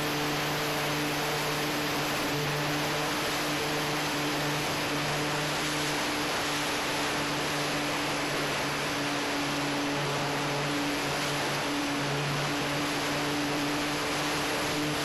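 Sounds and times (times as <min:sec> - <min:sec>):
electric motor and propeller hum: 0:00.0 - 0:15.0.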